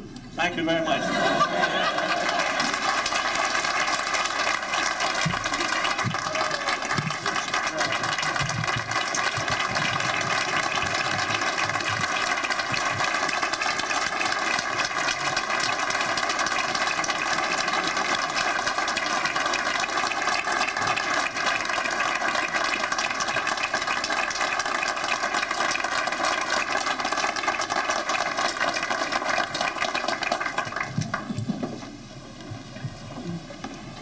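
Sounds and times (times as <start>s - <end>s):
large crowd clapping: 0.9s - 31.7s.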